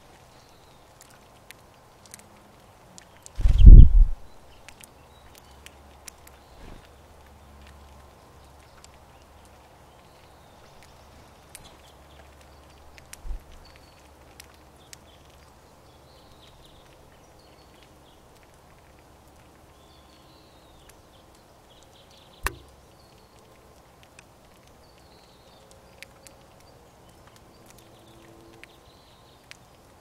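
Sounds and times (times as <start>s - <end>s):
birds cracking seeds: 0.1s - 30.0s.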